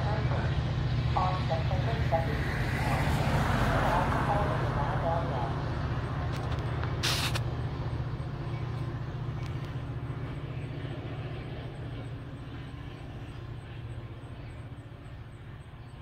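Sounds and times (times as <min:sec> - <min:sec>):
diesel train engine rumble: 0:00.0 - 0:16.0.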